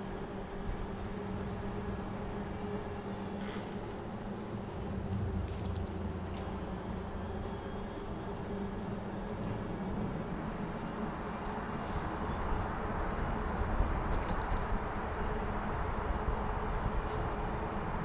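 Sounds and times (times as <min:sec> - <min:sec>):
bicycle tyres rolling on pavement: 0:02.2 - 0:17.1.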